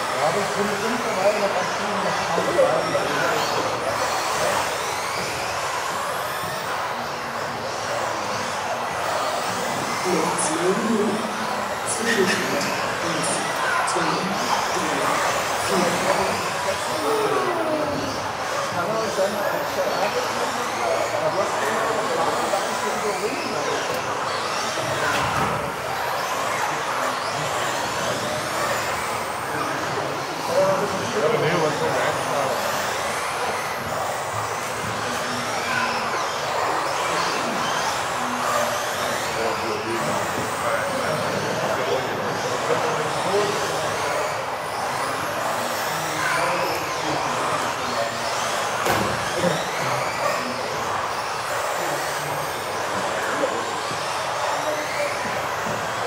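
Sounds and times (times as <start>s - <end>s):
electric motors whining: 0.0s - 56.0s
noisy indoor hall background: 0.0s - 56.0s.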